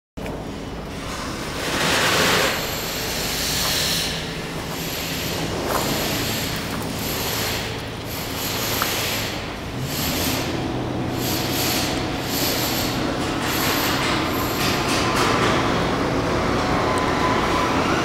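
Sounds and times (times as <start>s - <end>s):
train wheels rumbling on rails: 0.2s - 18.0s.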